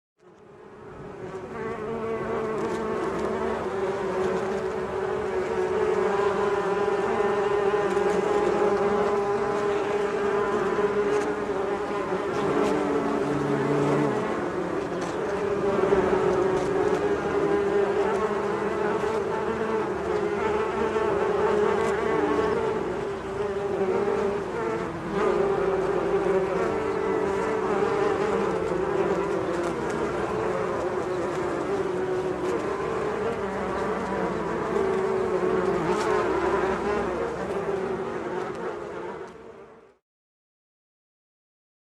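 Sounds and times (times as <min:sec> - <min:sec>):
bees buzzing: 0:00.7 - 0:39.9.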